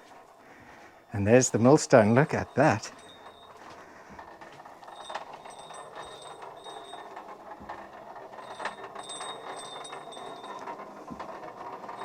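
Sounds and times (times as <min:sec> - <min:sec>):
clattering knocks and metallic rings: 0:00.0 - 0:12.0.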